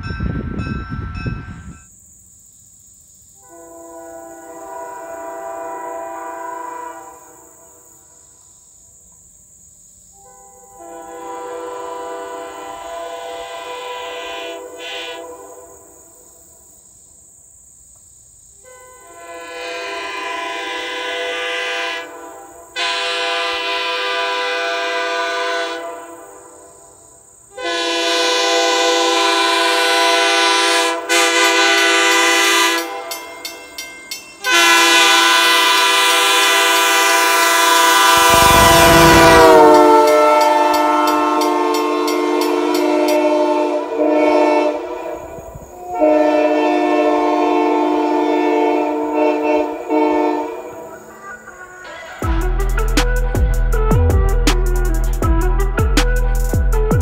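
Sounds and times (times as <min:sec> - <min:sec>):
train horn chord: 0:03.4 - 0:07.8, 0:10.2 - 0:16.1, 0:18.6 - 0:26.8, 0:27.5 - 0:33.6, 0:34.4 - 0:55.8.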